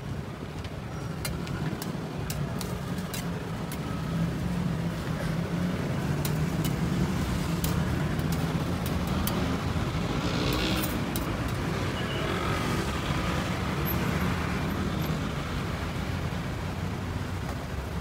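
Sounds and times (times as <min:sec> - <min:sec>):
street noise rumble: 0:00.0 - 0:18.0.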